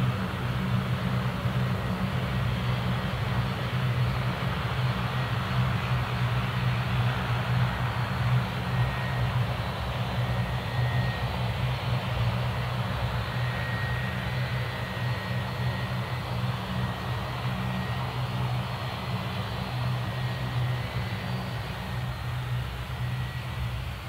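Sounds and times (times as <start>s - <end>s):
turboprop engine drone: 0.0s - 24.0s
faint thin whine: 0.1s - 24.0s.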